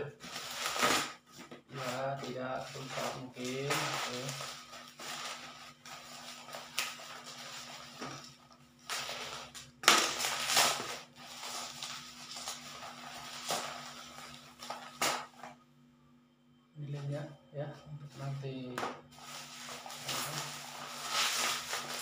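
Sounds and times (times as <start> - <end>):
bubble wrap crinkling and crackling: 0.0 - 15.5, 19.1 - 22.0.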